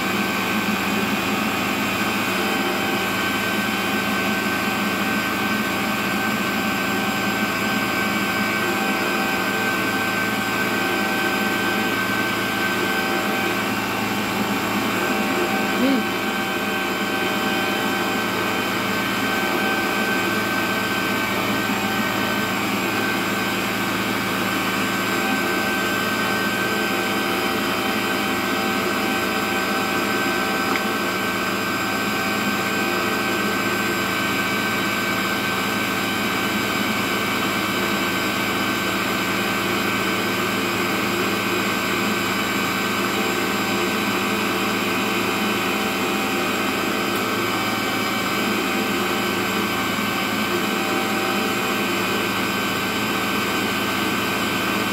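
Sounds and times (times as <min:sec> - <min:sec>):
electric meat grinder running: 0:00.0 - 0:54.9.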